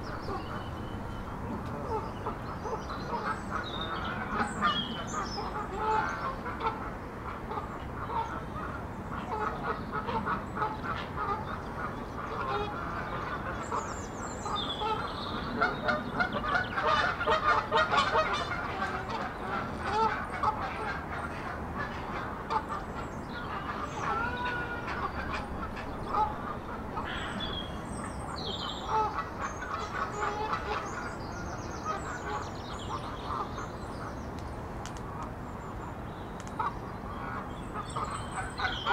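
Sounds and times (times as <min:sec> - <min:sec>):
waterfowl honking: 0:01.8 - 0:33.7, 0:36.6 - 0:38.9.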